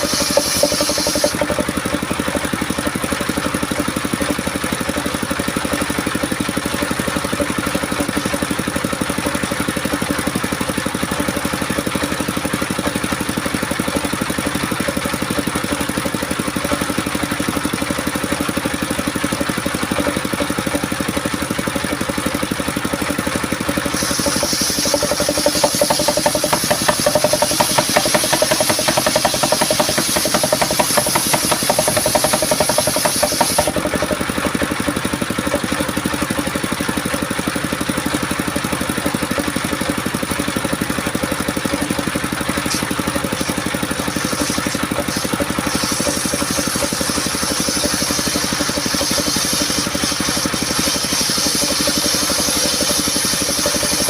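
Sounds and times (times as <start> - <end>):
saw blade cutting log: 0.0 - 5.1, 5.8 - 22.4, 23.7 - 36.2, 41.5 - 54.0
sawmill engine running: 0.0 - 54.0.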